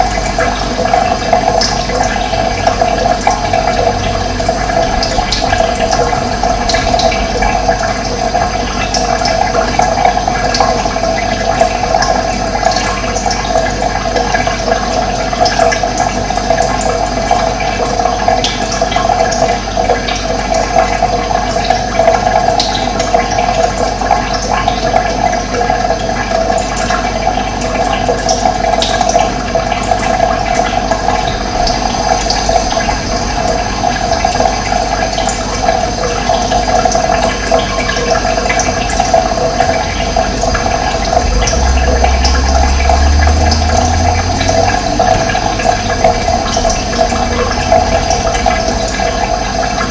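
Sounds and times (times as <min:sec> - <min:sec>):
running water gurgling: 0:00.0 - 0:49.9.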